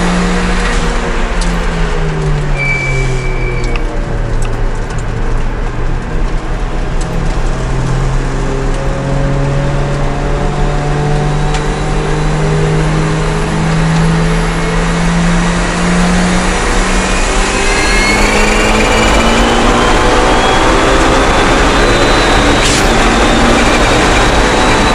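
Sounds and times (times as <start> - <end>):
car engine pulling hard: 0.0 - 24.9
road and tyre noise: 0.0 - 24.9.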